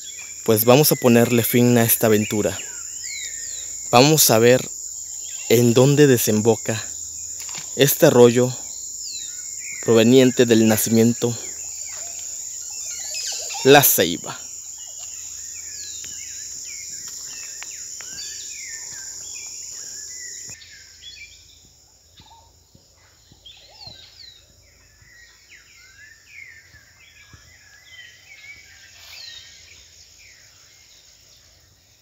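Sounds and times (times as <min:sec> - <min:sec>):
birds chirping: 0:00.0 - 0:32.0
insects buzzing: 0:00.0 - 0:32.0.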